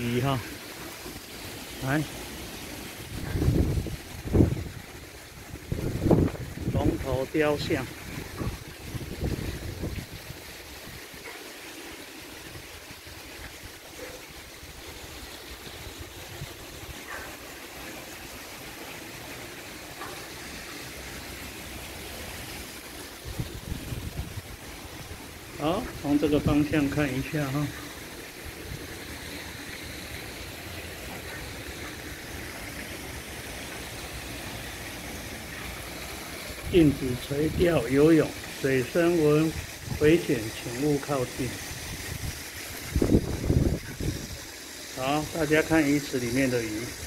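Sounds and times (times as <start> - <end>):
running water hissing: 0.0 - 47.0.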